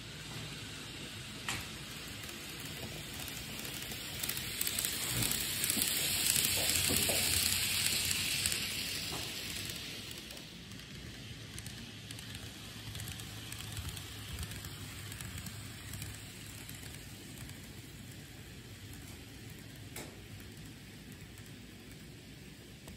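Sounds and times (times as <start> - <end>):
model train wheels rattling on rail: 0.2 - 22.9.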